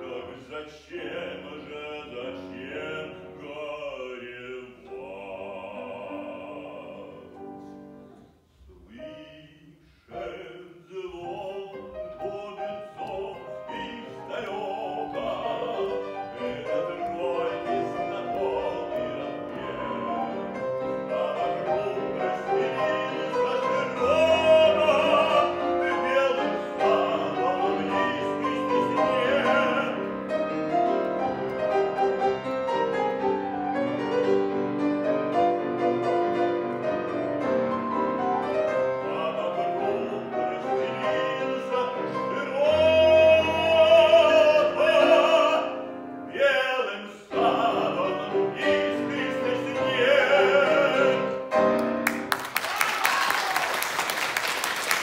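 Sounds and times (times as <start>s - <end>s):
man singing operatically: 0.0s - 7.8s, 8.6s - 32.1s, 38.4s - 51.7s
grand piano accompaniment: 0.0s - 55.0s.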